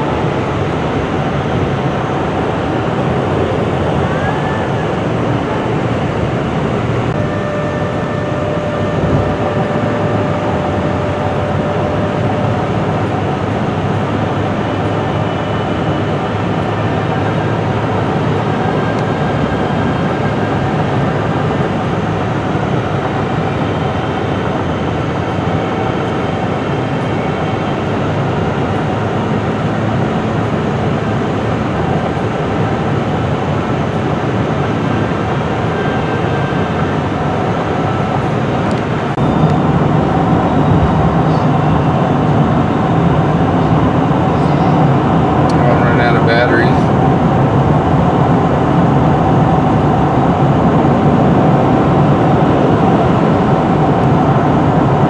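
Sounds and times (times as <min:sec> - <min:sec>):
car cabin road noise: 0:00.0 - 0:55.0.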